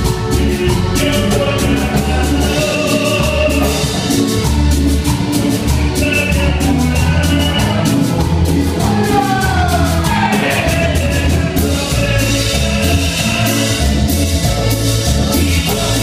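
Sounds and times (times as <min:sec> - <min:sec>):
charango strumming: 0:00.0 - 0:16.0
live cumbia band playing: 0:00.0 - 0:16.0.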